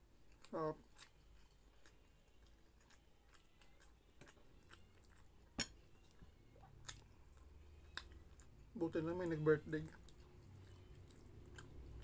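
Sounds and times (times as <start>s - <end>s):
faint chewing mouth sounds: 0.0s - 12.0s.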